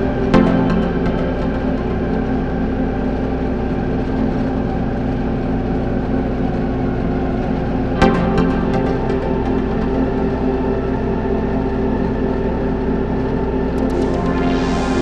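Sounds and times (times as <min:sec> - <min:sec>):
ambient music drone: 0:00.0 - 0:15.0.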